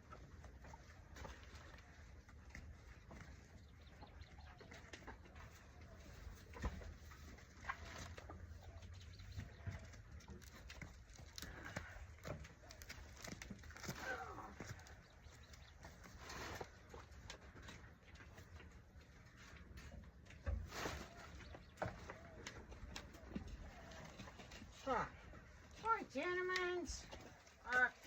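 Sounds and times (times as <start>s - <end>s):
small knocks and rustles: 0.0s - 25.9s.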